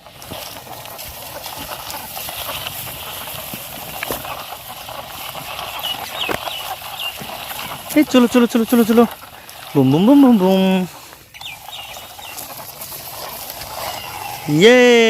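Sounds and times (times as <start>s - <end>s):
toy car rustling in dry stalks: 0.0s - 15.0s.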